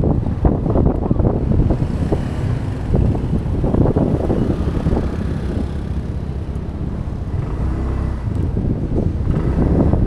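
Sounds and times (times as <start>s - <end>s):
street traffic rumbling: 0.0s - 10.0s
wind buffeting microphone: 0.0s - 10.0s.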